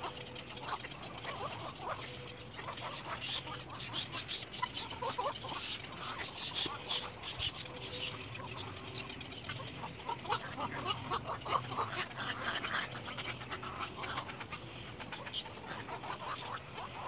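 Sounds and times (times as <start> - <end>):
heron chicks chattering calls: 0.0 - 17.0.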